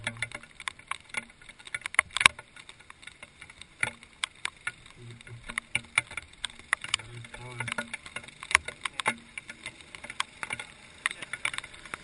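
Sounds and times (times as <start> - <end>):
raindrops tapping on camera housing: 0.0 - 12.0.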